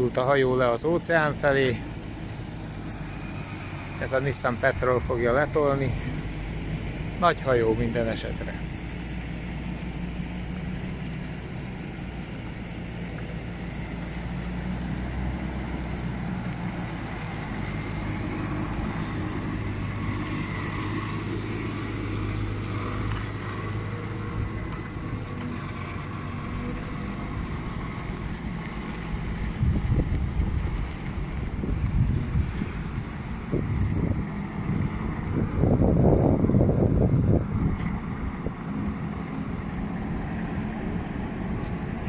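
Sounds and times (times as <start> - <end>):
engine running at low revs: 0.0 - 42.0.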